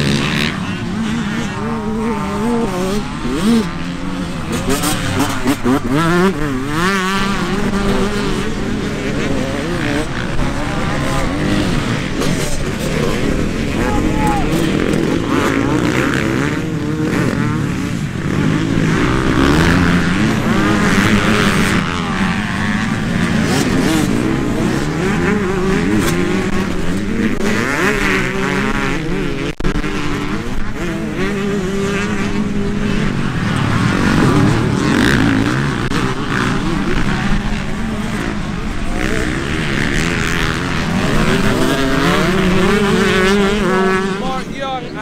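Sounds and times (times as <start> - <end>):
motocross bikes revving past: 0.0 - 45.0.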